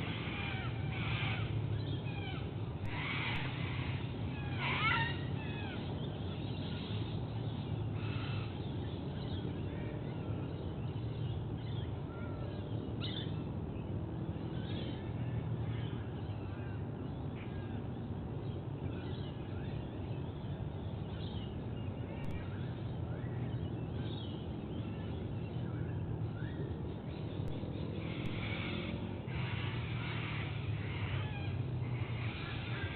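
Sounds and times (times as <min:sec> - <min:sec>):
bird calls and chirps: 0:00.0 - 0:32.9
low background rumble: 0:00.0 - 0:32.9.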